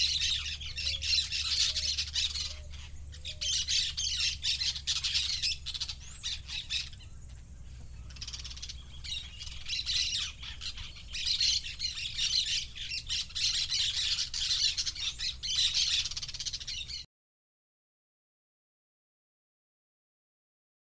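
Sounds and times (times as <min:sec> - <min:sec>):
low steady hum: 0:00.0 - 0:17.0
birds chirping and squawking: 0:00.0 - 0:17.1.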